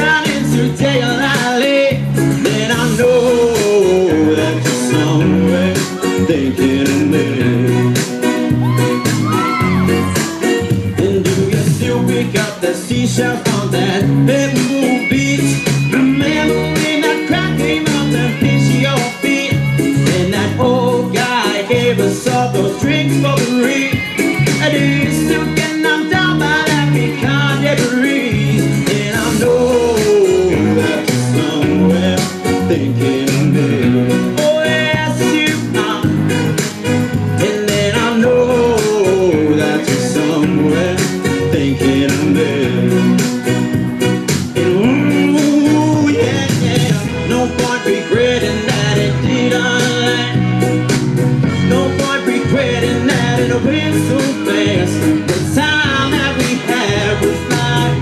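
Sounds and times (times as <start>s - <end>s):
person singing: 0.0s - 58.0s
song with guitar and beat: 0.0s - 58.0s.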